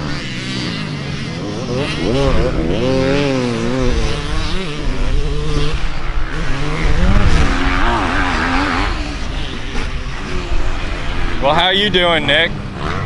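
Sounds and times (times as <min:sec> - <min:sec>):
dirt bike engine revving: 0:00.0 - 0:13.0
second engine running steadily: 0:00.0 - 0:13.0.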